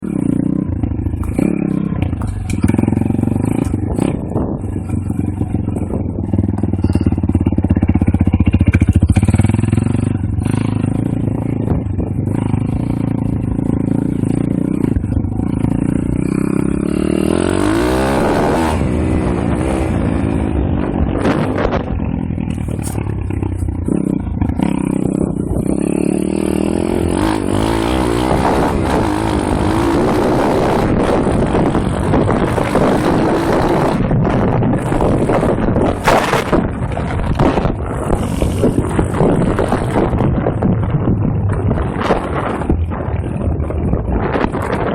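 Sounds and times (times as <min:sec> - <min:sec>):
pit bike engine revving: 0:00.0 - 0:44.9.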